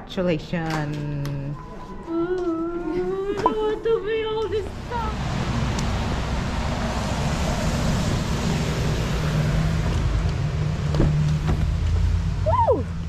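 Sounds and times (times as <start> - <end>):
low hum: 1.4 - 13.0.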